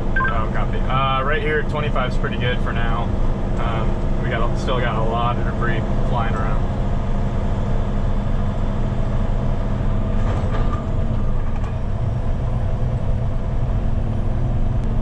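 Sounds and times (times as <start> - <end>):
road noise: 0.0 - 15.0
truck diesel engine running: 0.0 - 15.0.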